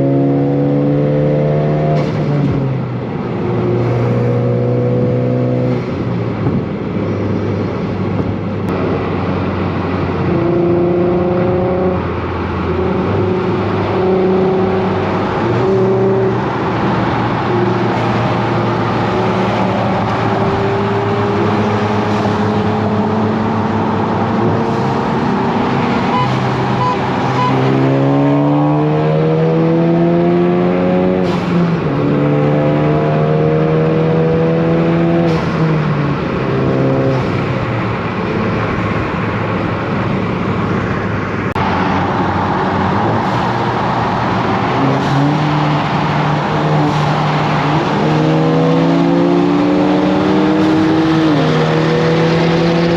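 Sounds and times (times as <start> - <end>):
car engine and exhaust: 0.0 - 52.9.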